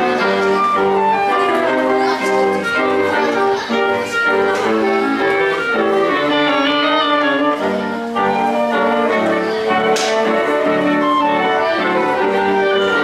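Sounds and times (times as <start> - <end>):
woodwind ensemble with piano: 0.0 - 13.0.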